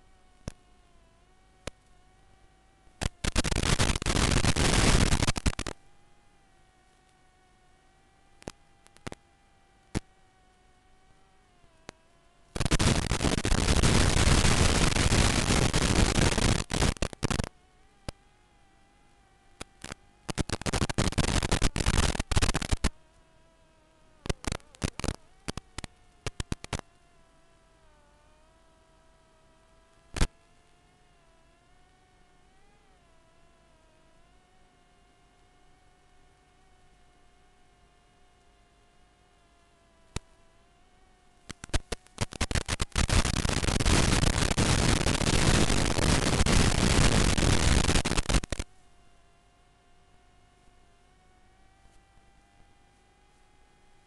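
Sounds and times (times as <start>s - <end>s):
crackling radio static: 0.0s - 54.0s.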